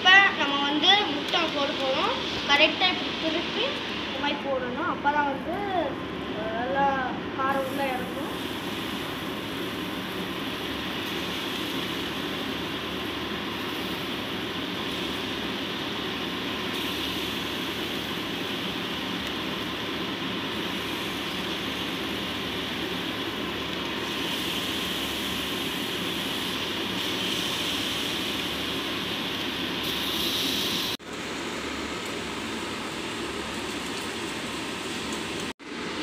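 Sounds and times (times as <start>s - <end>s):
eggs sizzling in hot oil: 0.0s - 4.8s, 7.5s - 35.6s.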